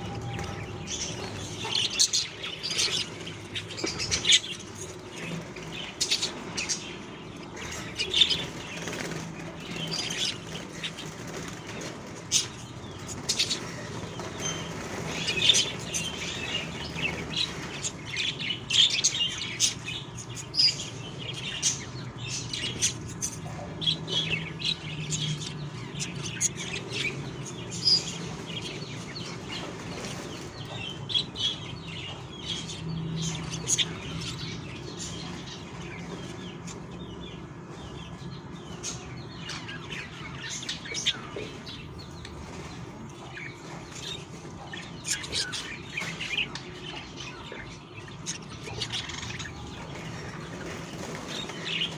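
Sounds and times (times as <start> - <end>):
chicks rustling and chirping: 0.0 - 51.9.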